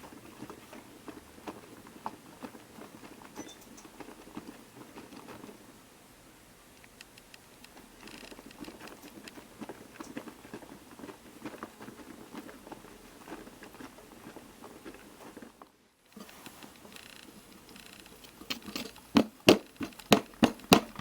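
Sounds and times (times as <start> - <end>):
wet laundry tumbling in washer: 0.0 - 6.2, 7.4 - 21.0.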